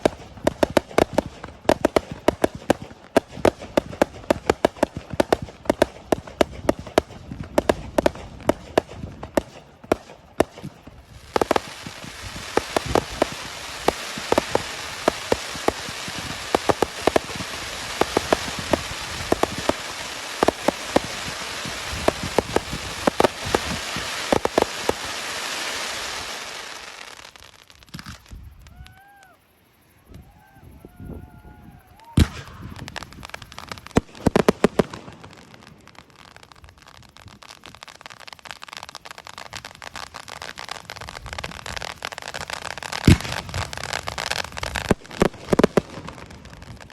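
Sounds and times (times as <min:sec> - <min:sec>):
fireworks bangs: 0:00.0 - 0:29.3, 0:31.2 - 0:46.9
fireworks hiss: 0:00.0 - 0:46.9.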